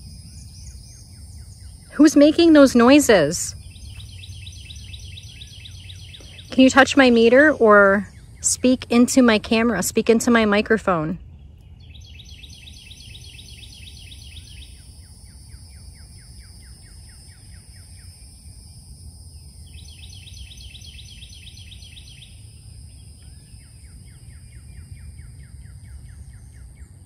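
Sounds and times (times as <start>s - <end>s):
high-pitched whine: 0.0s - 27.0s
songbird singing trills: 0.0s - 27.0s.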